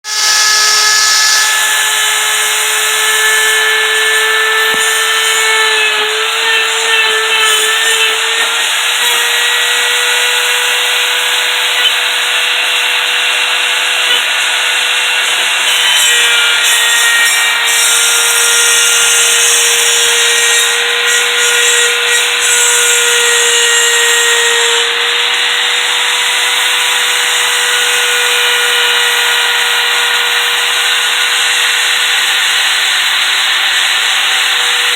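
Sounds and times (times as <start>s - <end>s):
rough cutting noise: 0.0s - 34.9s
router spindle whine: 0.0s - 34.9s.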